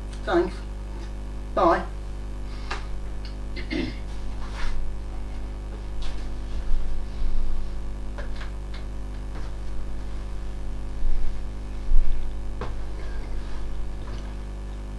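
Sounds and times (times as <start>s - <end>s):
electrical hum: 0.0s - 14.9s.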